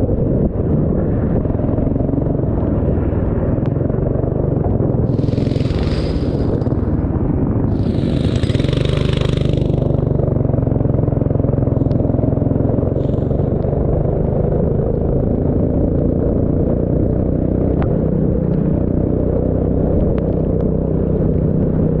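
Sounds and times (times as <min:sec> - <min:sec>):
racing engine rumbling: 0:00.0 - 0:22.0.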